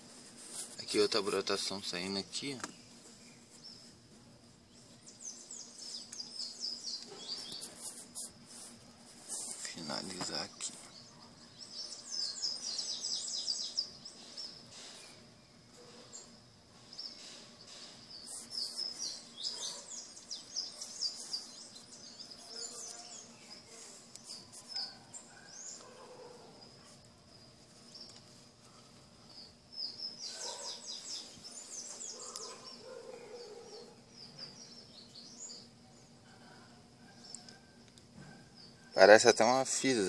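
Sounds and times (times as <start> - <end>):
small songbirds chirping: 0.2 - 40.0.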